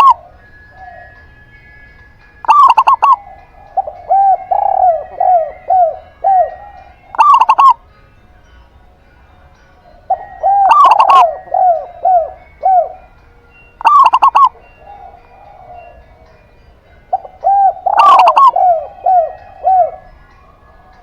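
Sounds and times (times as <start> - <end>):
doves cooing: 0.0 - 7.8, 10.0 - 21.0.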